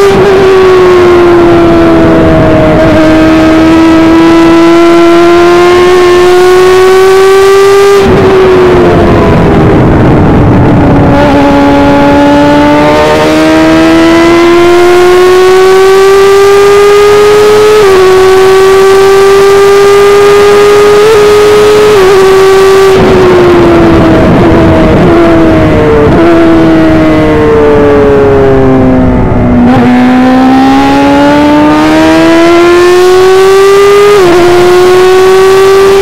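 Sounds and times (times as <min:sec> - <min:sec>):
racing car engine at full throttle: 0:00.0 - 0:36.0.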